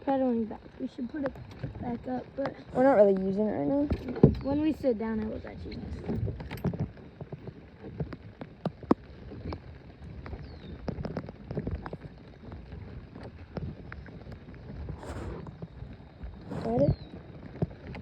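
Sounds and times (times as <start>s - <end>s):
wind on microphone: 0.0s - 18.0s
clicks and knocks in plastic boat: 0.2s - 18.0s.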